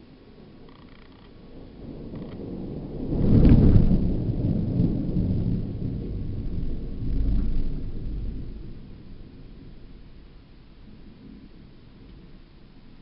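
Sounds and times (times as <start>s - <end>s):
thunder rolling rumble: 0.0s - 13.0s
thunder crack: 1.3s - 12.5s.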